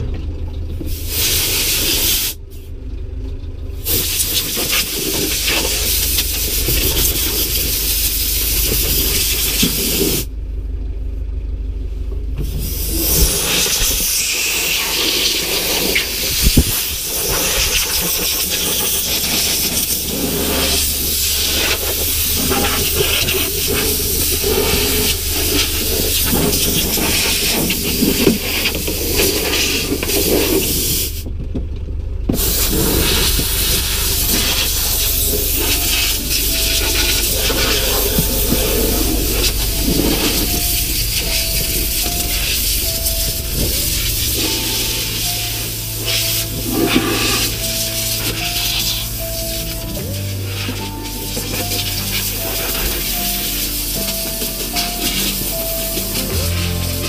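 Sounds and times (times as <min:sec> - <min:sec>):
steady low hum: 0:00.0 - 0:57.0
compressed air blow gun hissing: 0:00.9 - 0:02.4, 0:03.8 - 0:10.3, 0:12.4 - 0:31.2, 0:32.4 - 0:57.0.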